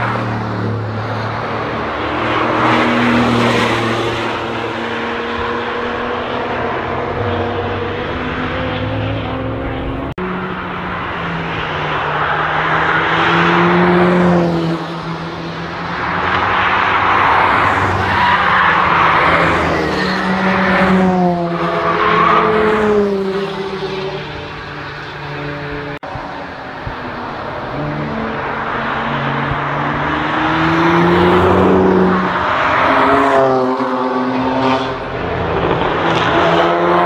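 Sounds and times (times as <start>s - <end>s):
sports car engine: 0.0s - 37.0s.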